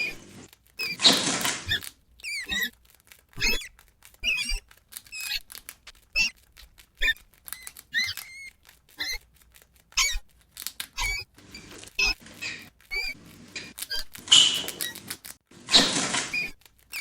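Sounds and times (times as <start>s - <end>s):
rat squeaking: 0.0s - 17.0s.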